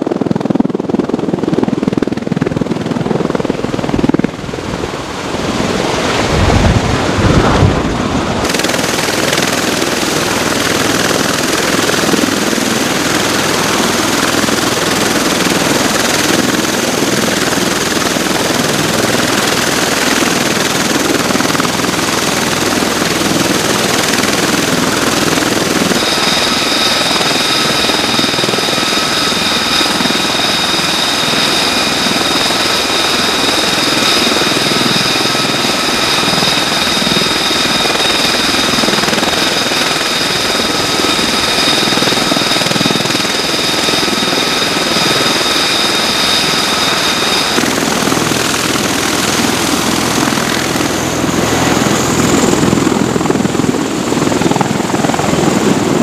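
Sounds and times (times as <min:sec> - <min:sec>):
heavy rotor noise: 0:00.0 - 0:56.0
high turbine whine: 0:00.0 - 0:56.0.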